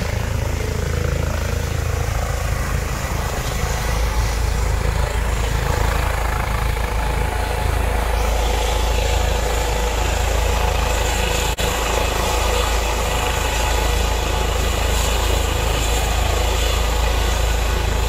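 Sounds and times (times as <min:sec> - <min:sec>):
helicopter turbine and rotor: 0:00.0 - 0:18.0.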